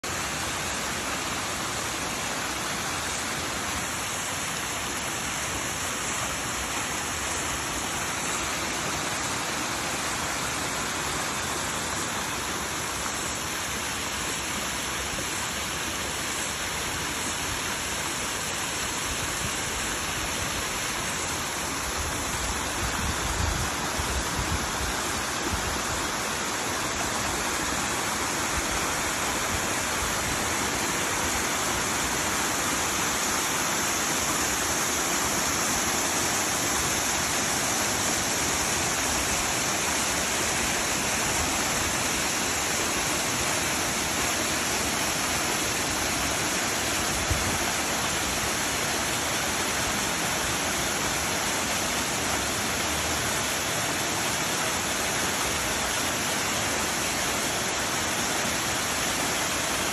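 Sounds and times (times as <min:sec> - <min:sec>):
waterfall splashing over rocks: 0:00.0 - 0:59.9.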